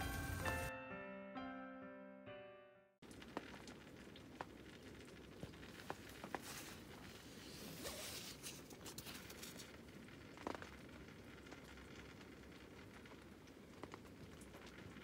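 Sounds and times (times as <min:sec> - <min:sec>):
faint rain patter: 0:00.0 - 0:00.7, 0:03.0 - 0:15.0.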